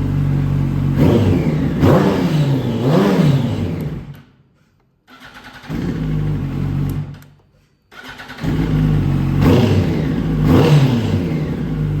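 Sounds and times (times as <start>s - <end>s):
motorcycle engine revving: 0.0s - 4.3s, 5.1s - 7.3s, 7.9s - 12.0s.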